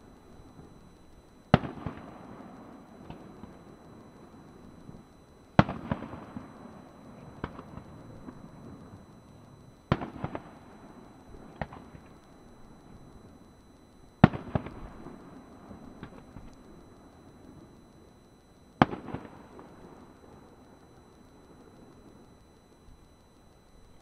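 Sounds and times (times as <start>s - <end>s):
fireworks bursting: 0.0s - 17.8s, 18.8s - 22.3s.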